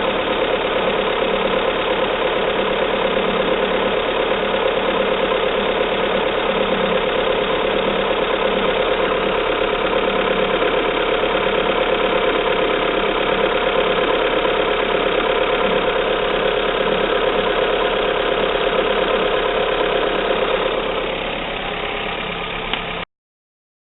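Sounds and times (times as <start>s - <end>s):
car engine idling with knock: 0.0s - 23.0s.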